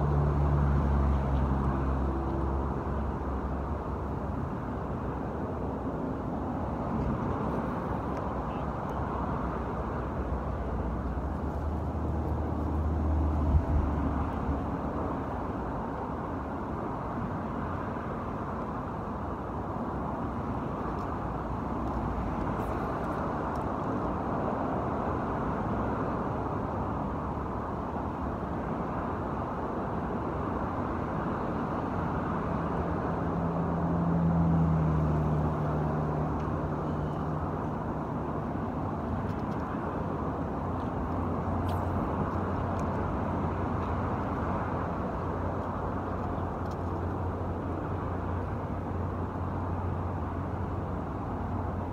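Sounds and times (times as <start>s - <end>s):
road traffic hum: 0.0s - 51.9s
vehicles passing: 0.0s - 51.9s.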